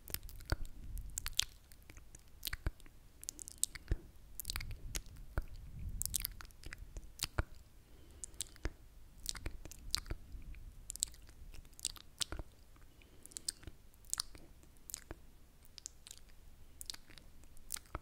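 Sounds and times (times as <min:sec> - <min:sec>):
wet mouth clicks and smacks: 0:00.0 - 0:07.6, 0:08.2 - 0:18.0.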